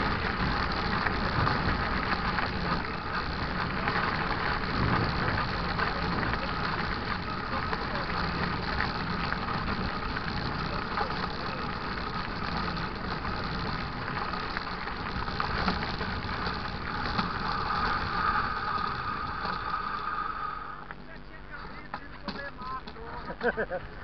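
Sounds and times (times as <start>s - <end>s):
bike rattles and ticks: 0.0s - 24.0s
mountain bike riding on dirt: 0.0s - 24.0s.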